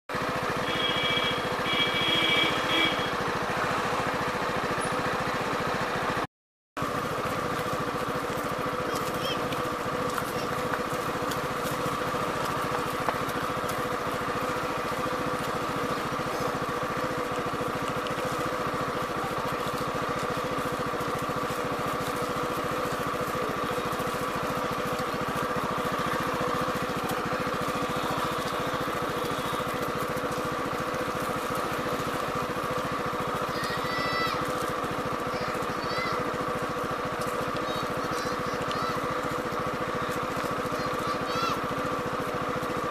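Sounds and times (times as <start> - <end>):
small engine idling: 0.1 - 42.9.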